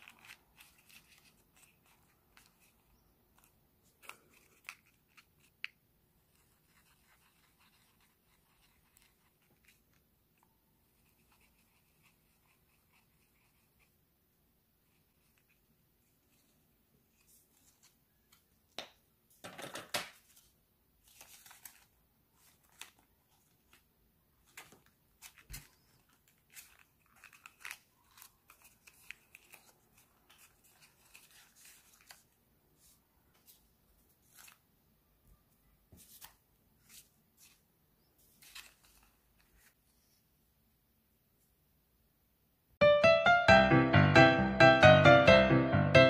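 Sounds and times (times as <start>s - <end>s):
paper rustling and crinkling: 0.0s - 13.7s, 15.0s - 18.6s, 19.3s - 34.7s, 35.9s - 40.2s.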